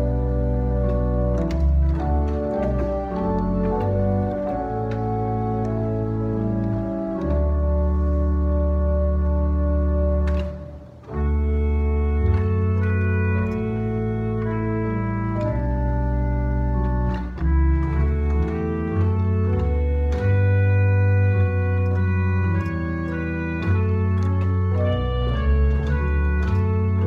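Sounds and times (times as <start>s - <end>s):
organ playing slow chords: 0.0s - 27.0s.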